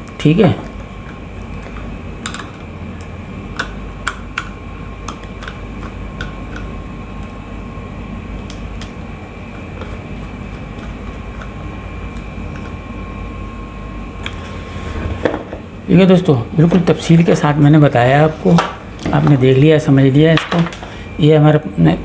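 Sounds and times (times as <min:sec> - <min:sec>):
steady background hum: 0:00.0 - 0:22.0
thin high whine: 0:00.0 - 0:22.0.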